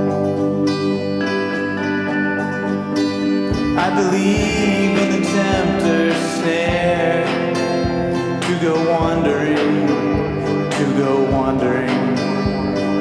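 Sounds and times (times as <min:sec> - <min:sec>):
slow country band music: 0:00.0 - 0:13.0.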